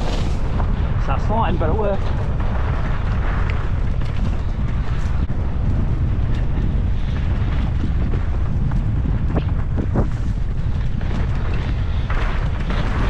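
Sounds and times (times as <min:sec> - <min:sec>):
wind rushing over microphone: 0:00.0 - 0:13.0
bike clicks and rattles: 0:01.8 - 0:13.0.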